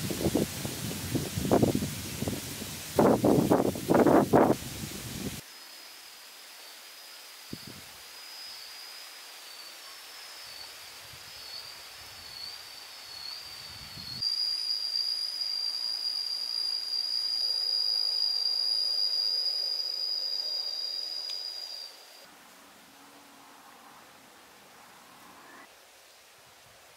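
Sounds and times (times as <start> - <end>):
cicadas droning: 0.0 - 26.9.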